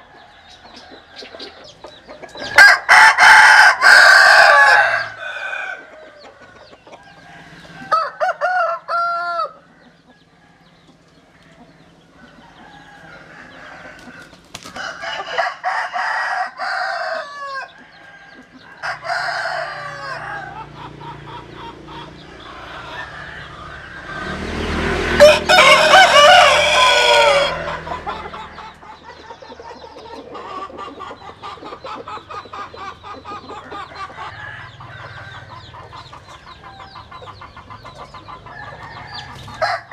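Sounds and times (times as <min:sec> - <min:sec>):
roosters crowing: 0:00.0 - 0:39.9.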